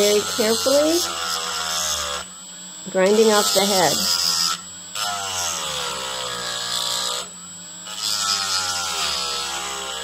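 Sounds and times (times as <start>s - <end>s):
metal grinding hiss: 0.0s - 10.0s
rotary tool motor whine: 0.0s - 10.0s.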